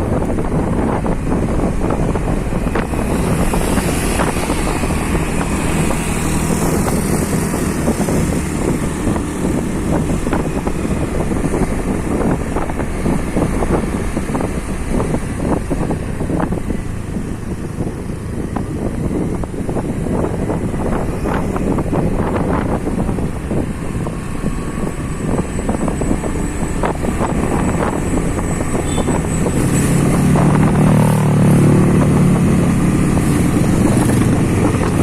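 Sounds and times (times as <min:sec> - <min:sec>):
motorcycle engine: 0:00.0 - 0:35.0
road noise: 0:00.0 - 0:35.0
wind buffeting microphone: 0:00.0 - 0:35.0.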